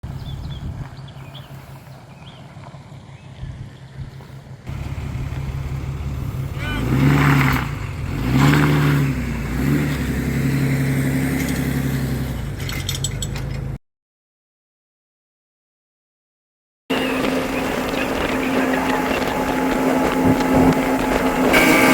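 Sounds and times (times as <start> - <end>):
boat engine running: 0.0 - 13.8, 16.9 - 21.9.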